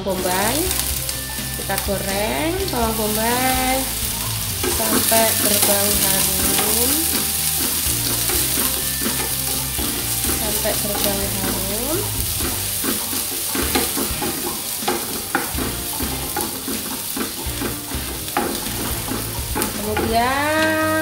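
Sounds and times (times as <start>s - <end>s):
onion sizzling in oil: 0.0s - 21.0s
wooden spatula scraping pan: 0.1s - 21.0s.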